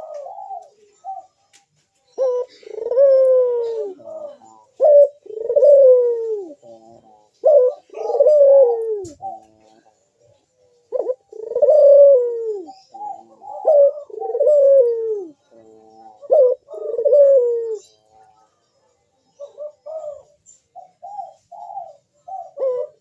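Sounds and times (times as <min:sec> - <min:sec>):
dove cooing: 0:00.0 - 0:23.0.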